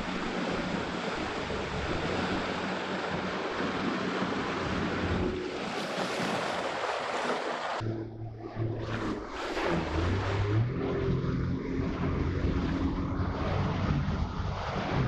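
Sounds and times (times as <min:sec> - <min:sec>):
water rushing and spraying: 0:00.0 - 0:07.8, 0:08.6 - 0:15.0
jet ski engine hum: 0:00.0 - 0:15.0.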